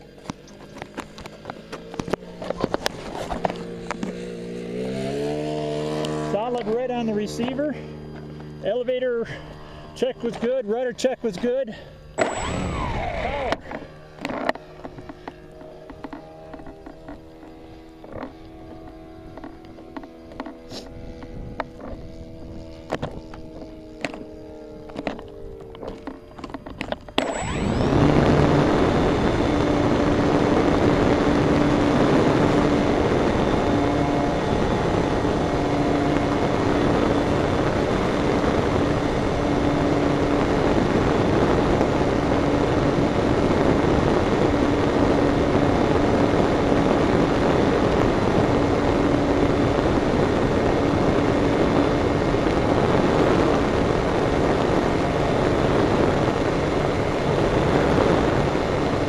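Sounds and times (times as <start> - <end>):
propeller hum: 0.0 - 59.0.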